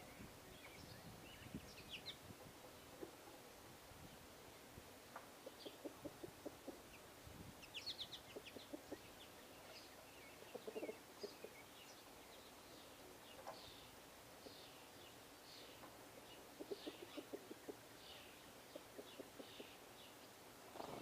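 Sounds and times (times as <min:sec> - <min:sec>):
low clucking bird calls: 0:00.0 - 0:03.7, 0:05.1 - 0:21.0.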